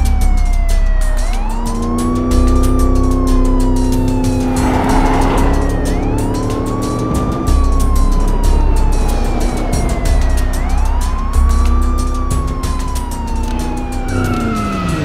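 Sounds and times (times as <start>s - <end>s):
background music with a beat: 0.0s - 15.0s
car engine rumble: 0.0s - 15.0s
police siren wailing: 0.0s - 15.0s.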